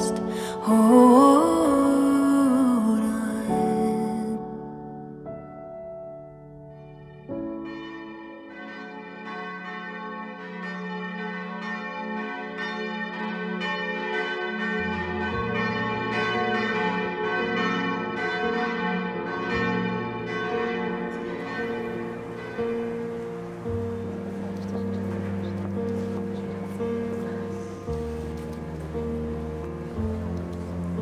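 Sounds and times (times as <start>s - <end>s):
church bells pealing: 0.0s - 31.0s.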